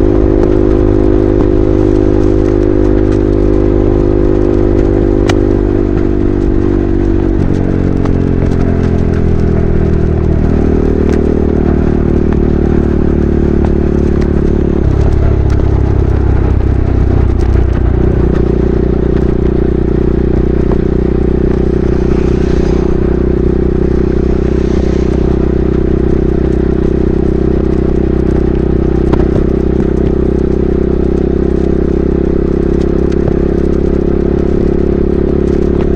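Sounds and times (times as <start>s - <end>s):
motorcycle engine at speed: 0.0s - 35.9s.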